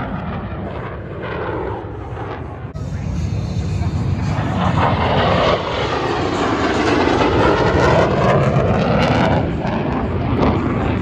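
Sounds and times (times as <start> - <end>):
jet engine roar: 0.1 - 11.0.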